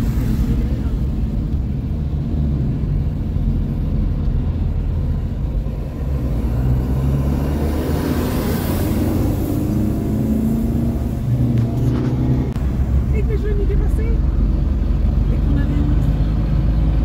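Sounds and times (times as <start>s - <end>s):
car engine and road rumble: 0.0s - 17.0s
passing traffic rushing: 0.0s - 17.0s.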